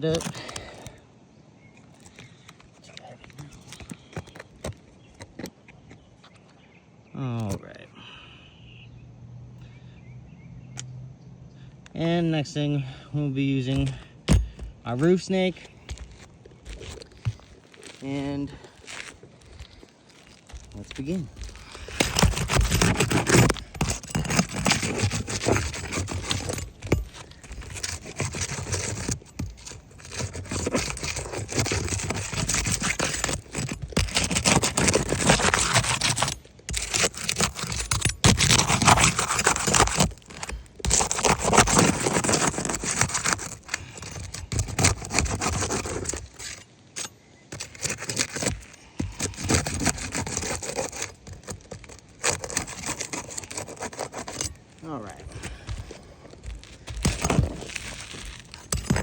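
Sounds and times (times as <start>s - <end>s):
shingle tool scraping and grating: 0.0s - 1.0s, 1.7s - 6.6s, 11.9s - 59.0s.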